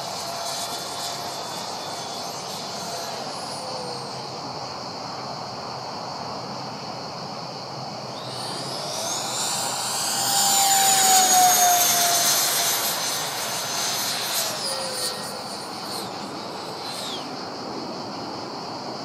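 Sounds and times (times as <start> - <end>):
model jet fan whining: 0.0 - 19.0.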